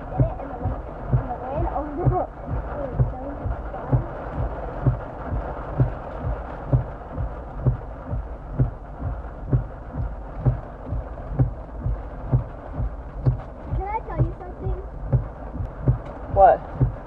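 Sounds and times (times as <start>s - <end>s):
rain hissing on a car: 0.0s - 17.0s
windshield wipers thumping: 0.0s - 17.0s.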